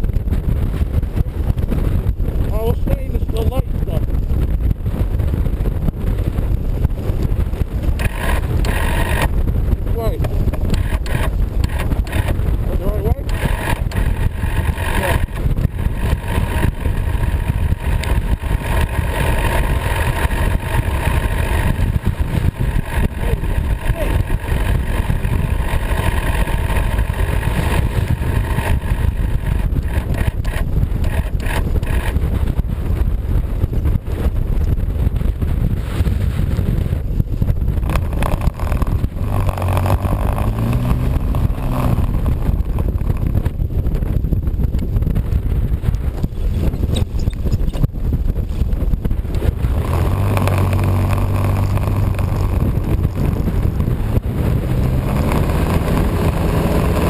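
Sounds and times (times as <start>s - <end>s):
vehicle engine running: 0.0s - 57.0s
wind noise on microphone: 0.0s - 57.0s.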